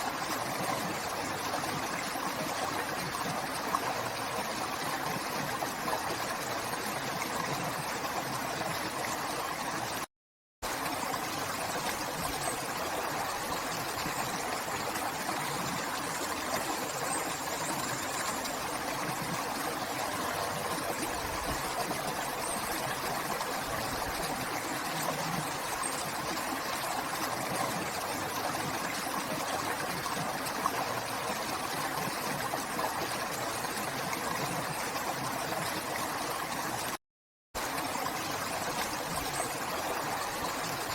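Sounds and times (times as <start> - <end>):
river water flowing: 0.0 - 37.0, 37.6 - 40.9.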